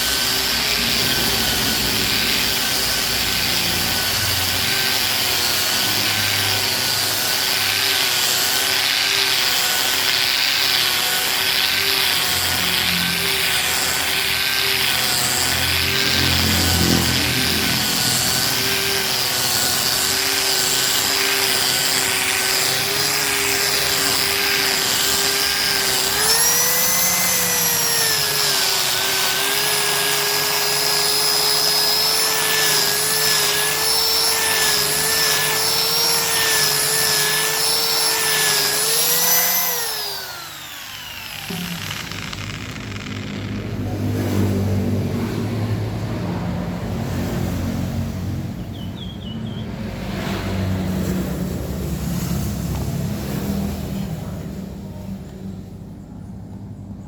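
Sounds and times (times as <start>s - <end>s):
angle grinder sanding wood: 0.0s - 45.7s.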